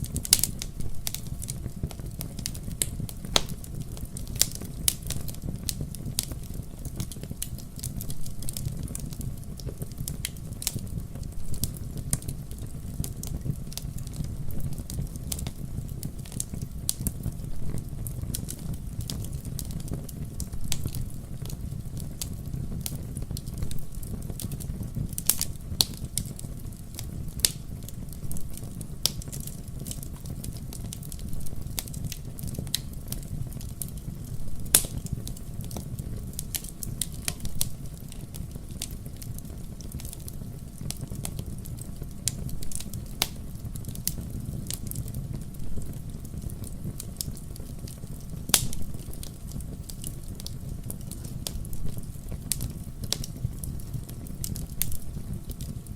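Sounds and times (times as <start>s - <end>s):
fireplace fire crackling: 0.0s - 55.9s.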